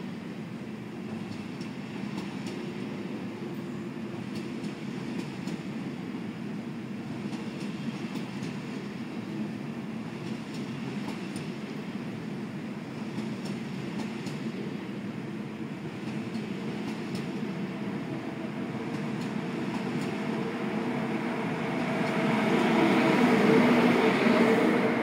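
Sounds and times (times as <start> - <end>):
high-speed train running past: 0.0 - 25.0.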